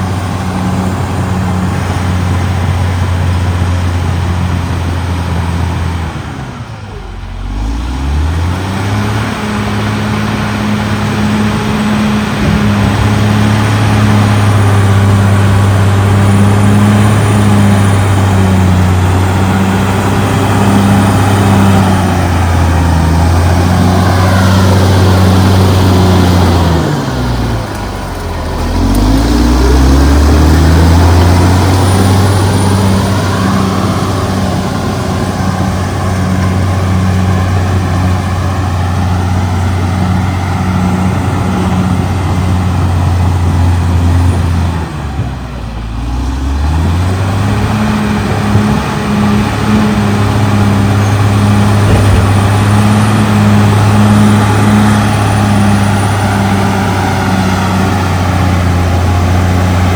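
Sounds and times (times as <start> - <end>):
bulldozer diesel engine revving: 0.0 - 59.9.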